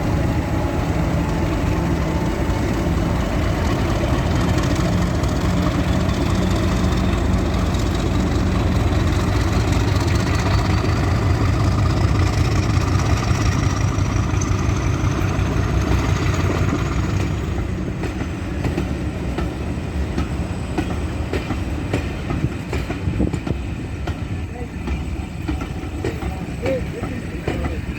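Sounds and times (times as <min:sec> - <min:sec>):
diesel locomotive engines working hard: 0:00.0 - 0:27.9
wheels clicking over rail joints: 0:00.0 - 0:27.9.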